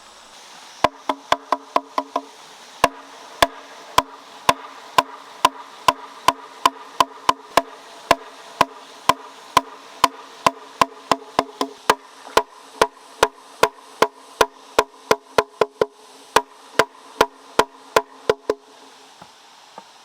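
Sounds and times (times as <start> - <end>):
tool knocking on hard object: 0.8 - 18.6.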